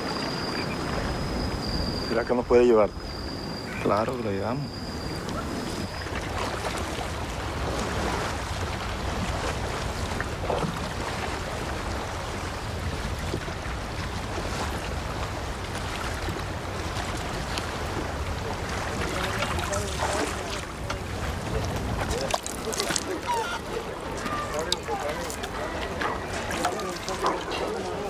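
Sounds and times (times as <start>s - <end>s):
water wash: 0.0s - 28.0s
wind: 0.0s - 28.0s.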